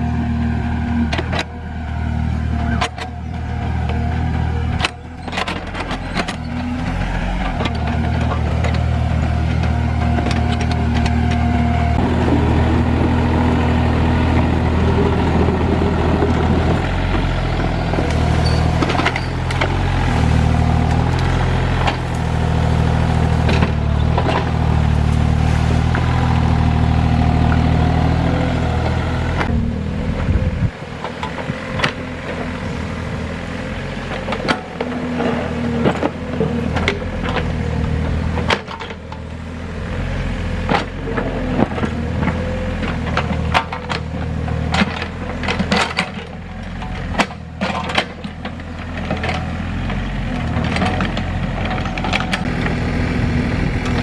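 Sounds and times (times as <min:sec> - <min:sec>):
excavator diesel engine working: 0:00.0 - 0:54.0.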